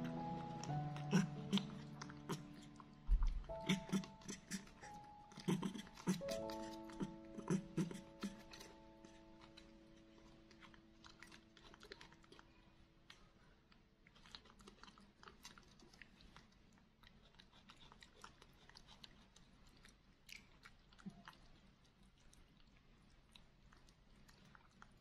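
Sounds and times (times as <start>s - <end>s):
monkeys chewing wetly: 0.0s - 25.0s.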